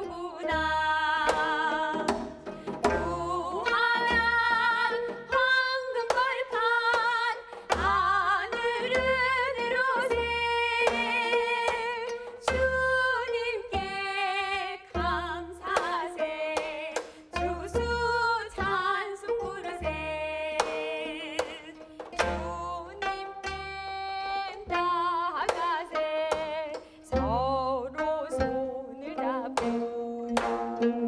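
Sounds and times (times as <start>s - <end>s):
plucked zither ensemble: 0.0s - 31.0s.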